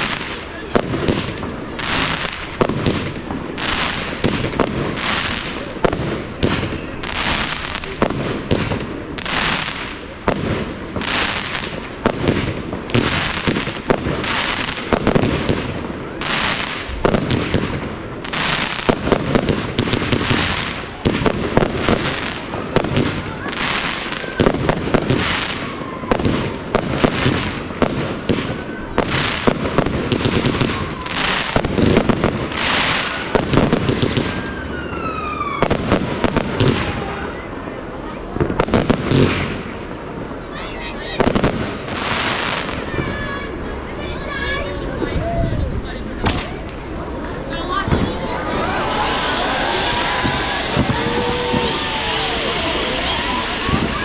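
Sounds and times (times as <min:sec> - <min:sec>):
fireworks bursts and bangs: 0:00.0 - 0:54.0
fireworks crackle and rumble: 0:00.0 - 0:54.0.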